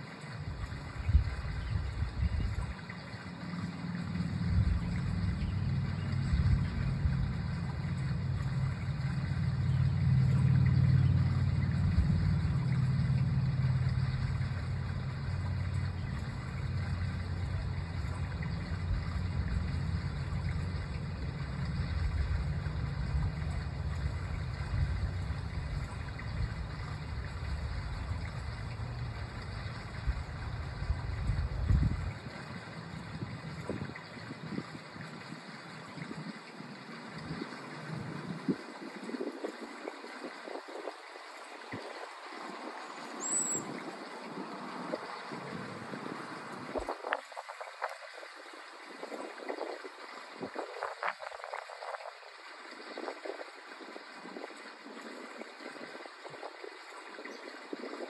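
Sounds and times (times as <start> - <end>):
low engine rumble: 0.0 - 52.8.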